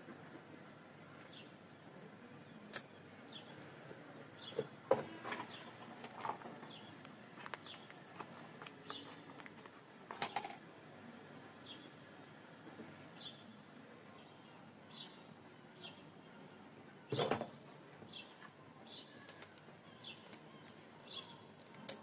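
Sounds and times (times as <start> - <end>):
faint birds chirping: 0.2 - 22.0.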